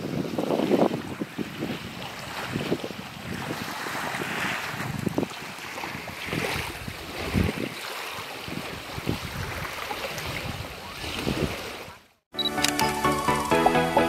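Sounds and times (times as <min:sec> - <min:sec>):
wind buffeting microphone: 0:00.0 - 0:11.8
small waves on sandy shore: 0:00.0 - 0:12.2.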